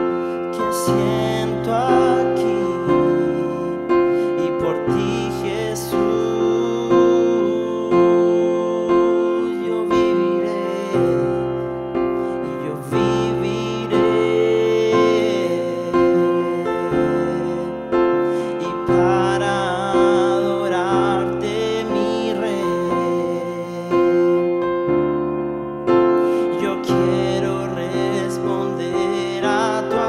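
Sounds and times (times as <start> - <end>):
slow piano worship music: 0.0 - 30.0.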